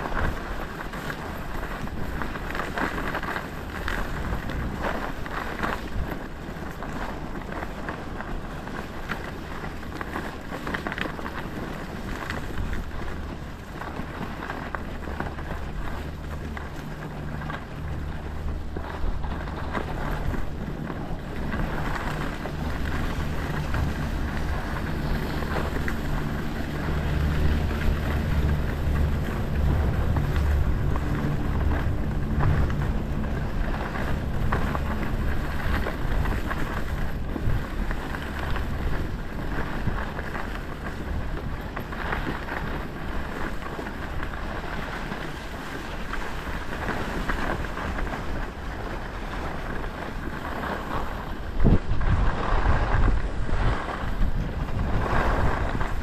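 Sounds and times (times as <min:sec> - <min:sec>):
skis sliding through snow: 0:00.0 - 0:56.0
wind buffeting the microphone: 0:00.0 - 0:56.0.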